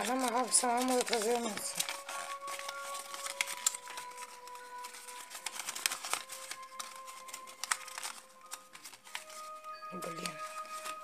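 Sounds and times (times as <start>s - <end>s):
faint background music: 0.0s - 11.0s
paper crinkling: 0.0s - 11.0s.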